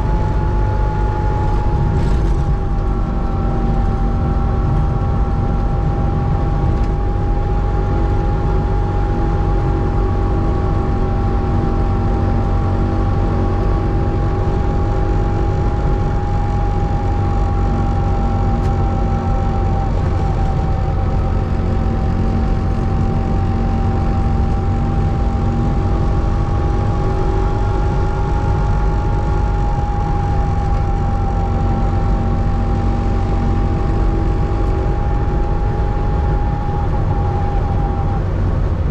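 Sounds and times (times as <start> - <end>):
car engine running: 0.0 - 38.9
low rumble: 0.0 - 38.9.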